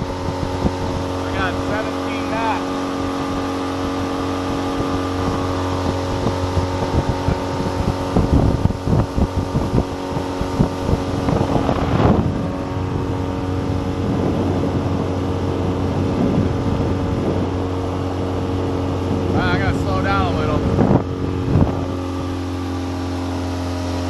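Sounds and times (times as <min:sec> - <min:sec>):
hull thumps and buffeting: 0:00.0 - 0:24.0
outboard engine running: 0:00.0 - 0:24.0.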